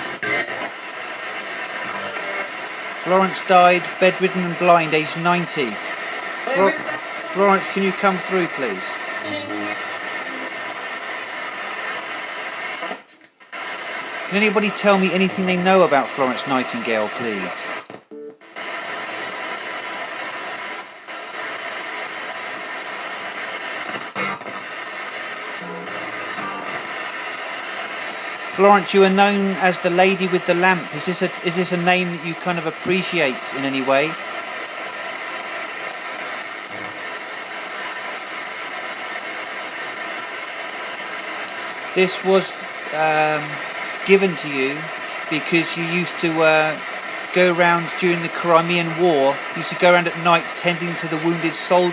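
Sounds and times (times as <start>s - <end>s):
snatch of radio sound: 0.0s - 18.0s, 18.6s - 51.9s
radio static hiss: 0.0s - 51.9s.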